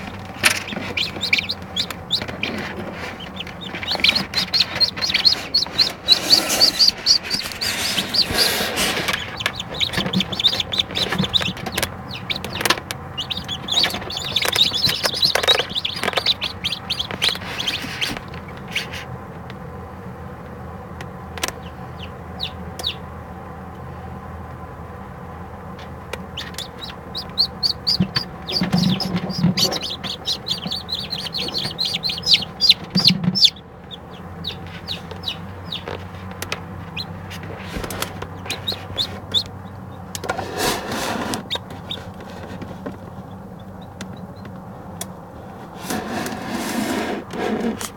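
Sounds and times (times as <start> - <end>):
chicks peeping: 0.0 - 46.8
steady low hum: 0.0 - 47.9.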